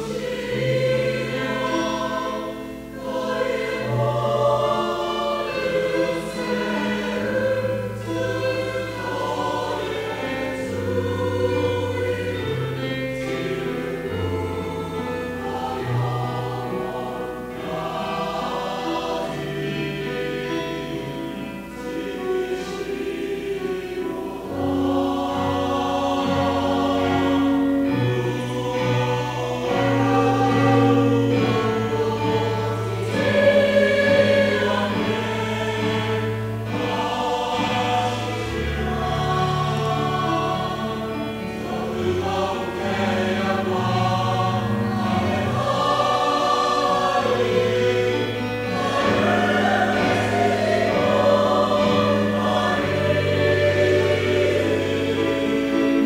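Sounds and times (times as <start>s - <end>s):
church choir singing in parts: 0.0s - 56.0s.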